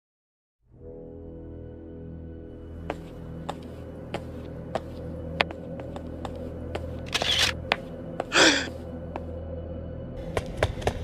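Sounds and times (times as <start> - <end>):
low ambient drone: 0.8 - 11.0.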